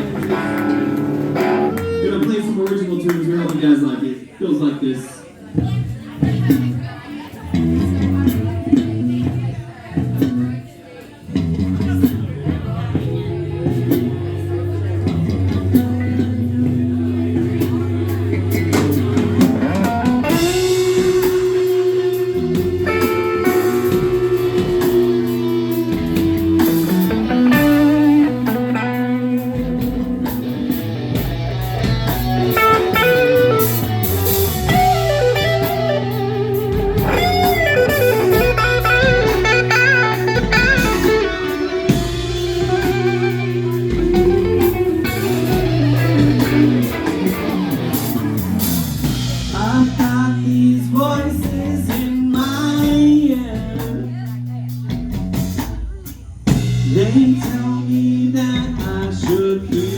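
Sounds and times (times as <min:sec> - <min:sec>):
bass line: 0:00.0 - 0:02.6, 0:05.6 - 0:10.7, 0:11.3 - 0:59.9
bluesy electric guitar: 0:00.0 - 0:03.2, 0:05.5 - 0:59.9.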